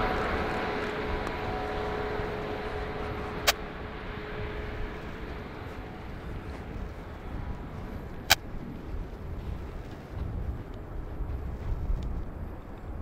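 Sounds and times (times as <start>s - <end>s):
jet engines whining: 0.0s - 11.7s.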